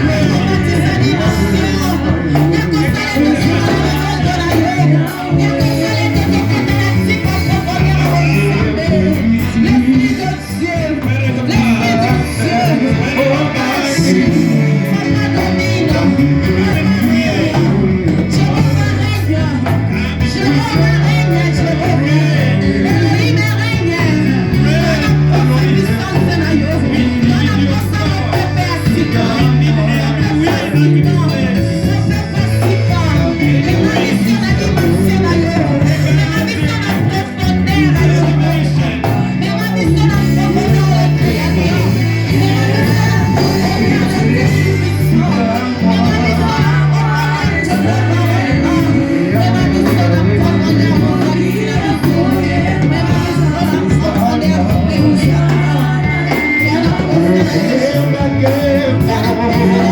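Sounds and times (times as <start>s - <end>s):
bass line: 0.0s - 59.9s
live band playing upbeat groove: 0.0s - 59.9s
person singing: 0.0s - 59.9s.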